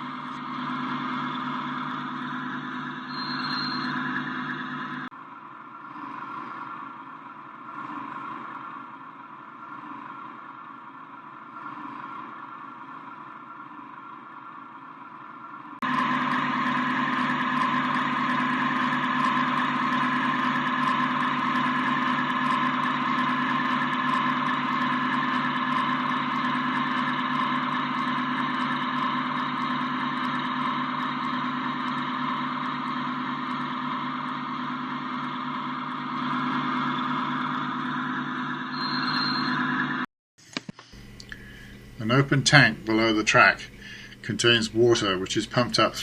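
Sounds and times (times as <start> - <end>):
model train humming on track: 0.0 - 40.0, 41.4 - 46.0.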